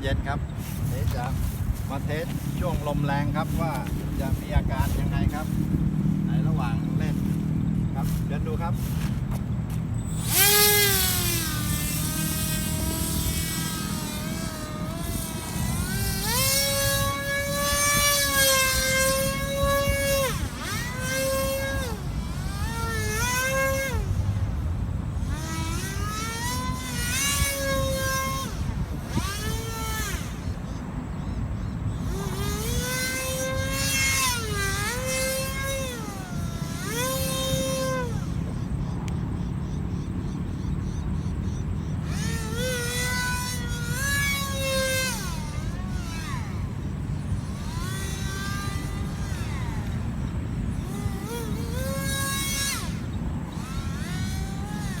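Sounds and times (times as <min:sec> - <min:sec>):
model aircraft motor whining: 0:00.0 - 0:55.0
wind rumbling on microphone: 0:00.0 - 0:55.0.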